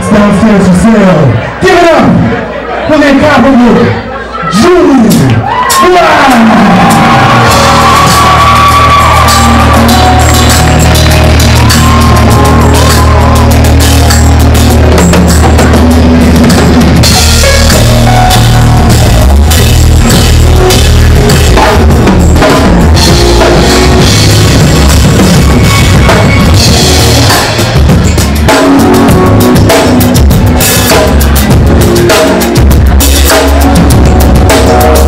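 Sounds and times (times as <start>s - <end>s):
live band playing loud: 5.0s - 35.0s
bass drum: 6.8s - 35.0s.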